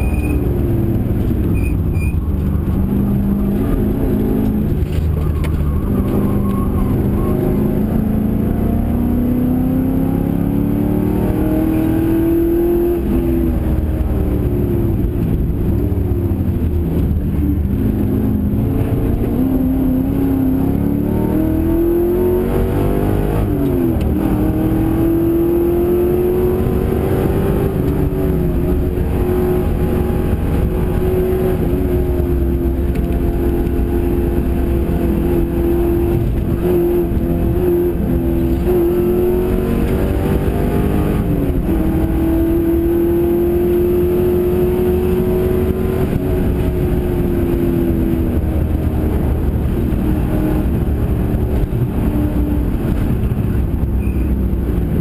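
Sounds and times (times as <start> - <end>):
race car engine at speed: 0.0 - 55.0.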